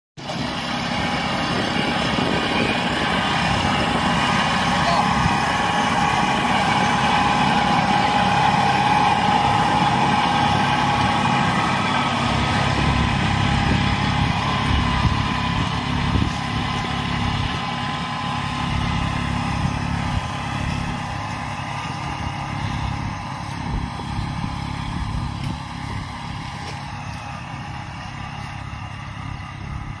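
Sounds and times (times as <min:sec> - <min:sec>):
tractor diesel engine running: 0:00.2 - 0:30.0.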